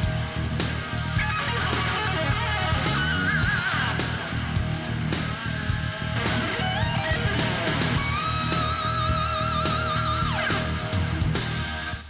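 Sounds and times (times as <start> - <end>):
electric guitar lead line: 0.0 - 12.0
rock music: 0.0 - 12.0.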